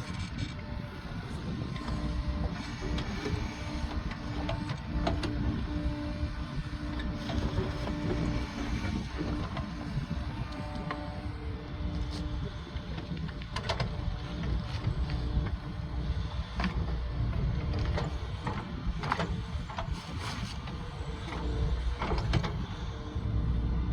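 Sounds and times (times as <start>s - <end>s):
earthmoving machine engine rumble: 0.0s - 23.9s.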